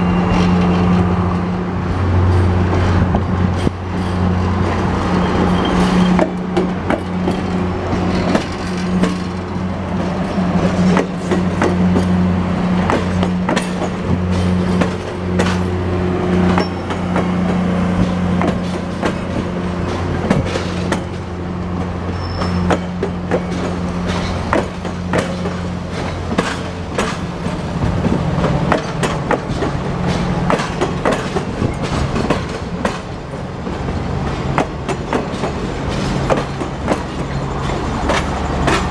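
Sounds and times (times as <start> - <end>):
train wheels clicking on rail joints: 0.0 - 38.9.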